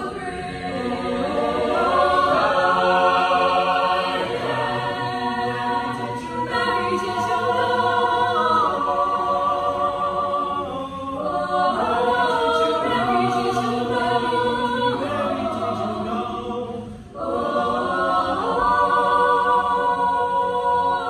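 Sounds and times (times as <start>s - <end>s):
choir singing a cappella: 0.0s - 21.0s.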